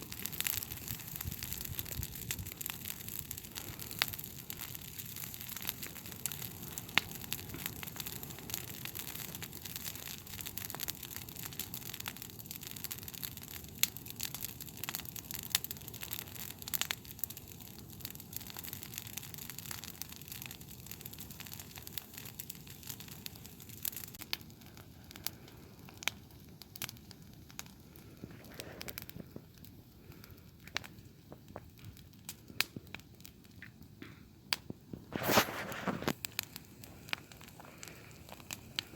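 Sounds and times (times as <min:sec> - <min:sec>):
campfire crackling and popping: 0:00.0 - 0:38.9
soft fire hiss: 0:00.0 - 0:38.9.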